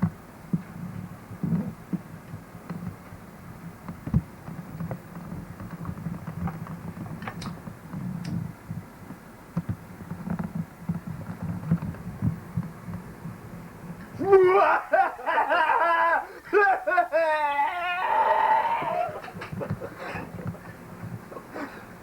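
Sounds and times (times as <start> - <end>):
low uneven hum: 0.0 - 22.0.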